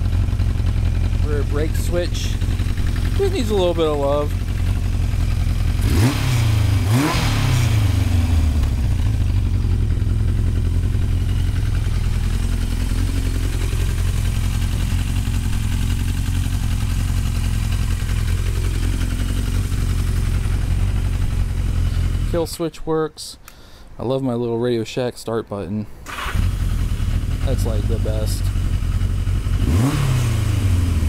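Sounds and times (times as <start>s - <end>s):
motorcycle engine revving and idling: 0.0s - 22.4s, 26.1s - 31.0s.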